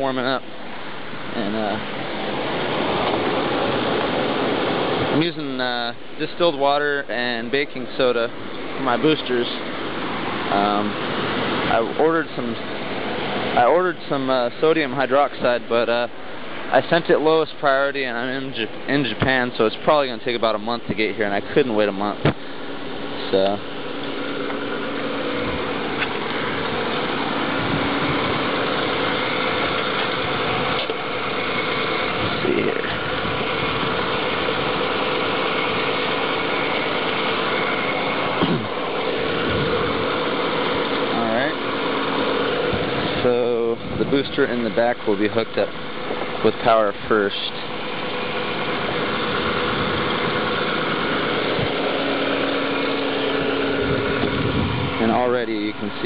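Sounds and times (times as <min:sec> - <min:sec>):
car engine idling: 0:00.0 - 0:56.0
faint steady hum: 0:00.0 - 0:56.0.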